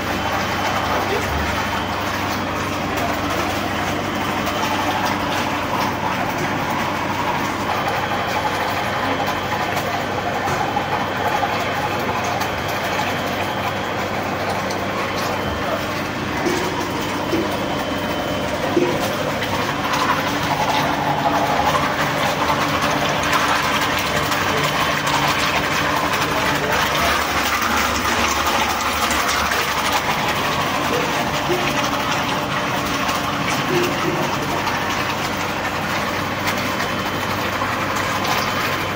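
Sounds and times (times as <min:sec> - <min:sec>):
low motor hum: 0:00.0 - 0:38.9
meat processing machinery drone: 0:00.0 - 0:38.9.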